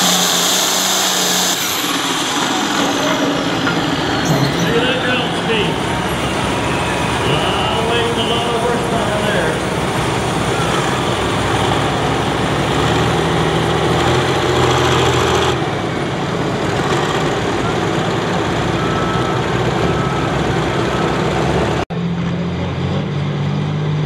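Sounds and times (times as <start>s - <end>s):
second tractor diesel engine: 0.0s - 24.0s
tractor diesel engine running: 0.0s - 24.0s.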